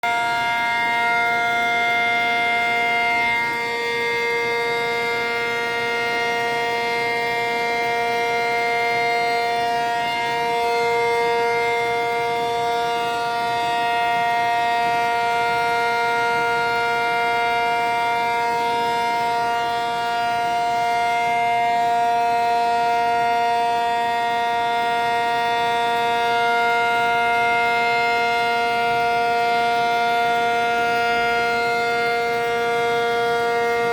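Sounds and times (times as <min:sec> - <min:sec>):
siren steady tone: 0:00.0 - 0:33.9.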